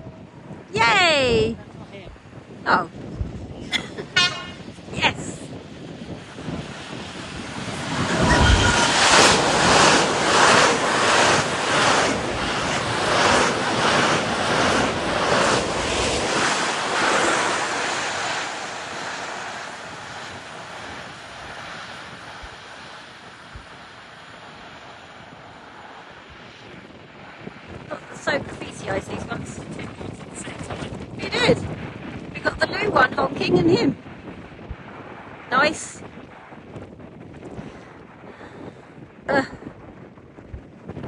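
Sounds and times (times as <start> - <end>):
wind hiss on microphone: 0.0 - 41.0.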